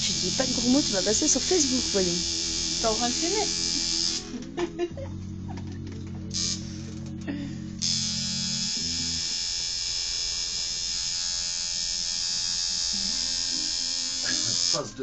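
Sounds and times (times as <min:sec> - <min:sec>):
tattoo machine buzzing: 0:00.0 - 0:04.5, 0:06.3 - 0:15.0.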